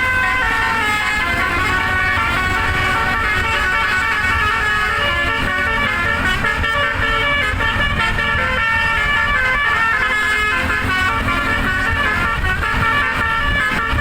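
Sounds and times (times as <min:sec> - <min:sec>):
low rumble of vehicle engines: 0:00.0 - 0:14.0
musical air horn melody: 0:00.0 - 0:14.0.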